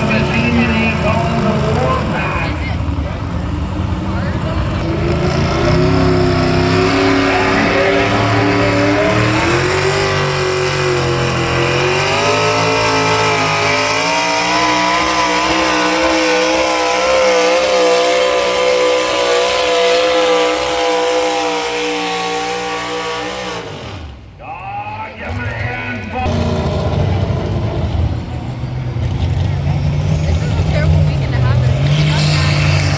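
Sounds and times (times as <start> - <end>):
pulling vehicle engine at full throttle: 0.0 - 32.9.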